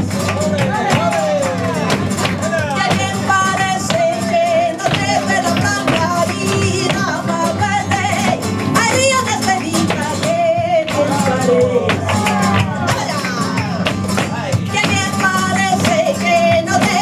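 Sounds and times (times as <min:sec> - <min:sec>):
flamenco guitar: 0:00.0 - 0:17.0
flamenco singer with vibrato: 0:00.0 - 0:17.0.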